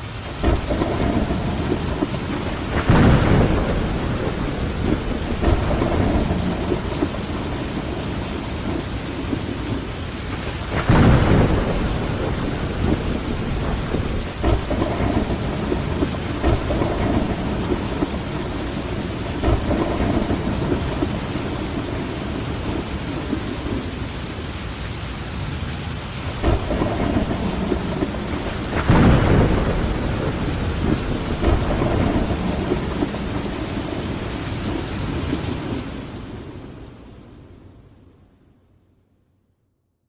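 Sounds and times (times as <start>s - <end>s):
heavy rain against window: 0.0s - 38.6s
rolling thunder: 0.2s - 24.7s, 25.5s - 37.5s.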